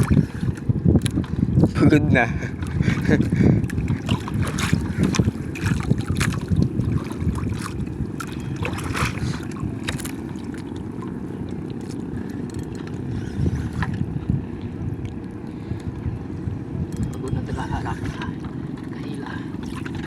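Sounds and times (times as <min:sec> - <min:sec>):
water splashes: 0:00.0 - 0:15.9, 0:18.1 - 0:20.0
wind rumble on microphone: 0:00.0 - 0:20.0.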